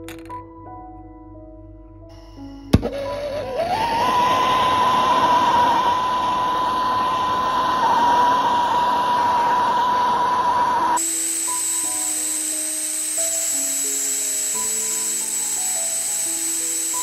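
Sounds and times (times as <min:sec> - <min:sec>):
high steady whistle: 0:02.1 - 0:17.0
gas torch flame hissing: 0:02.7 - 0:17.0.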